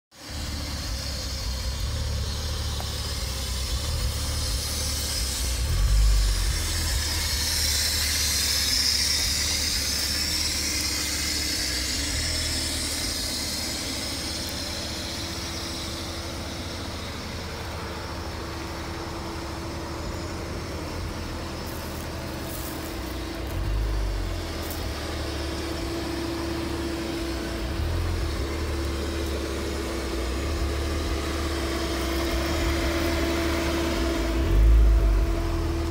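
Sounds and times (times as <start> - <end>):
car engine idling: 0.1 - 35.9.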